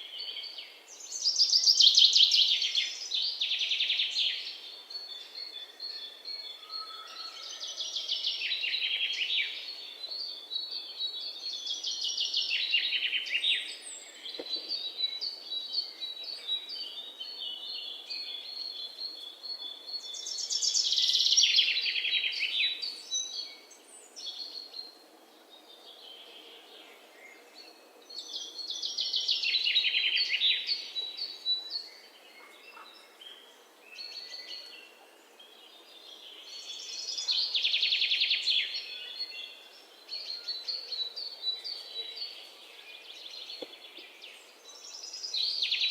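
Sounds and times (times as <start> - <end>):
faint background hiss: 0.0 - 6.6, 7.4 - 45.9
songbirds chirping: 0.0 - 45.9.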